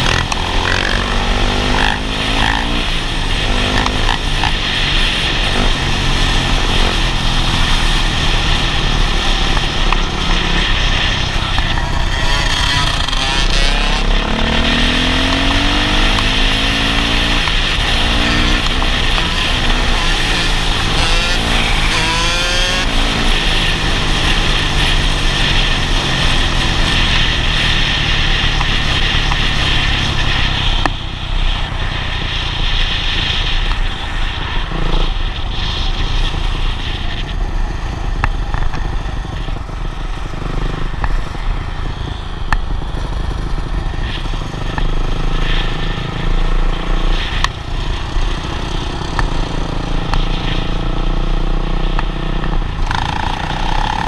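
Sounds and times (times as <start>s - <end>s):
dirt bike engine running: 0.0s - 54.0s
wind rush on microphone: 0.0s - 54.0s.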